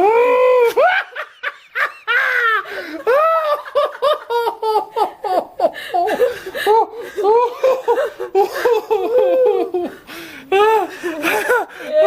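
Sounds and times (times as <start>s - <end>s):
people laughing: 0.7s - 12.0s.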